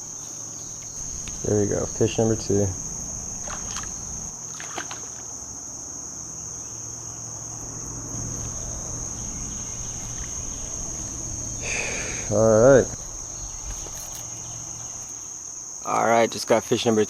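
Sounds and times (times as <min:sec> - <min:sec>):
faint low hum: 0:00.0 - 0:15.8
insects buzzing: 0:00.0 - 0:17.0.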